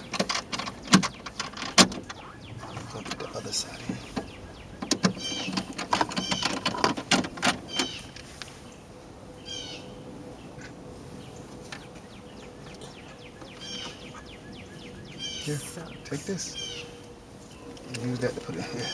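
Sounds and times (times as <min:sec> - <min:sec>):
bird chirping: 0:00.0 - 0:07.0, 0:07.6 - 0:18.9.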